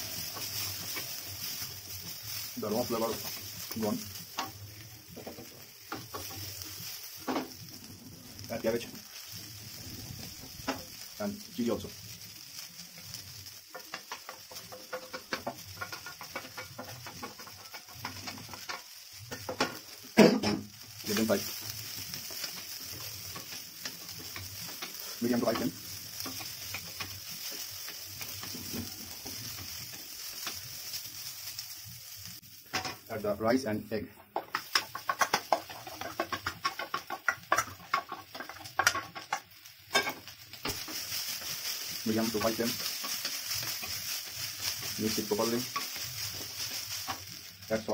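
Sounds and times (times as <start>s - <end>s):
wooden spatula scraping a pan: 0.0s - 7.6s, 11.8s - 33.0s, 34.2s - 47.9s
vegetables sizzling in a pan: 0.0s - 47.9s.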